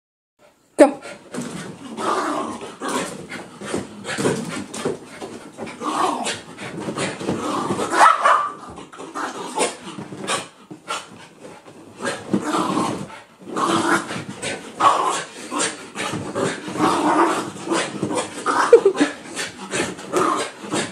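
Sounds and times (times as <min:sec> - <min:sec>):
dogs growling: 0:01.0 - 0:20.9.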